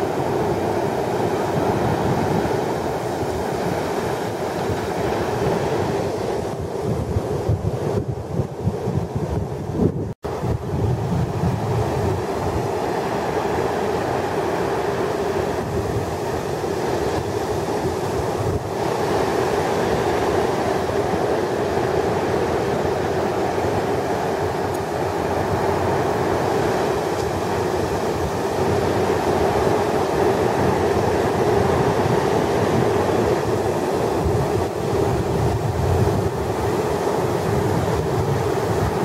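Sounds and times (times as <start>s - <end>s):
heavy ocean surf breaking: 0.0s - 39.0s.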